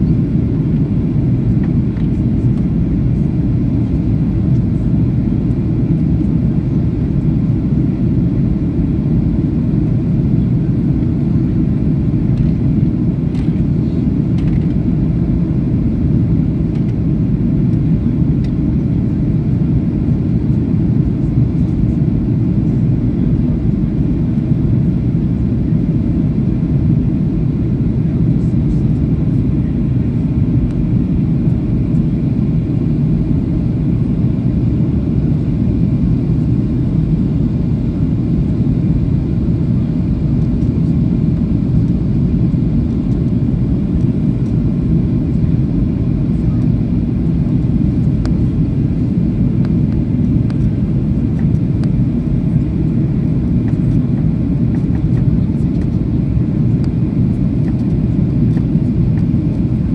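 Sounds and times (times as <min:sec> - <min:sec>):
airplane cabin roar: 0:00.0 - 0:59.9.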